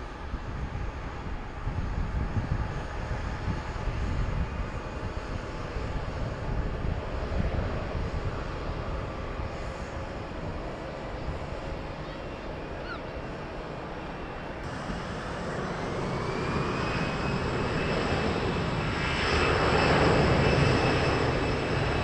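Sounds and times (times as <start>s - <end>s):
jet engines rumbling at takeoff: 0.0s - 22.0s.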